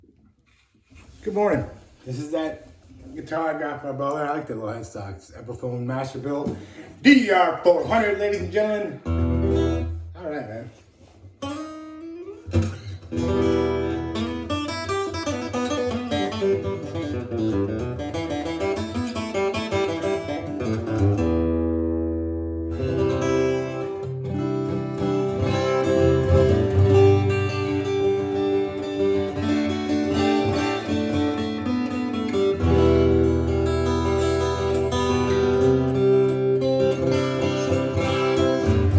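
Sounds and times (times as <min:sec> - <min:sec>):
acoustic guitar playing: 0:06.2 - 0:38.9.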